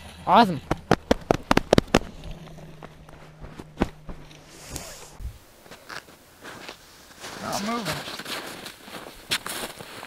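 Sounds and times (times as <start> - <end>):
footsteps in snow: 1.2 - 10.0.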